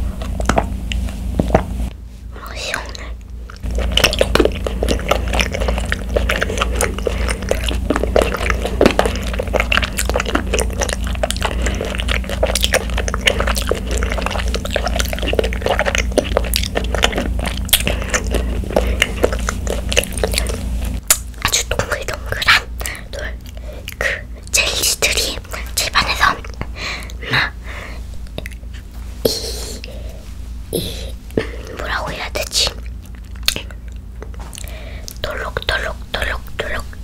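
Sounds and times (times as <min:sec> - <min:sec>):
chewing tapioca pearls: 0:00.0 - 0:01.2, 0:02.4 - 0:28.9, 0:31.1 - 0:37.0.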